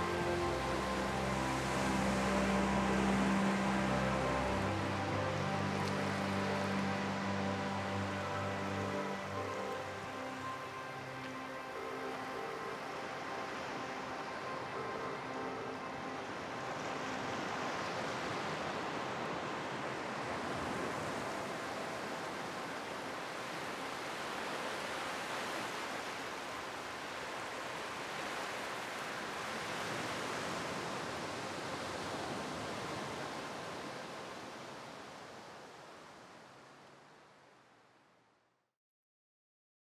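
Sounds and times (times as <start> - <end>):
sea waves washing onto beach: 0.0 - 36.9.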